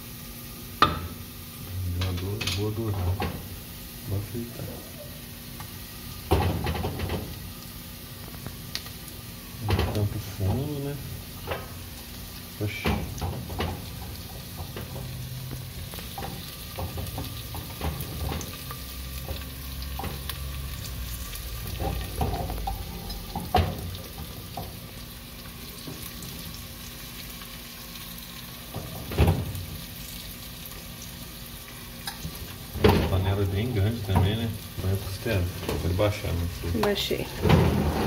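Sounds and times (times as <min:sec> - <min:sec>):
onions sizzling in oil: 0:00.0 - 0:38.0.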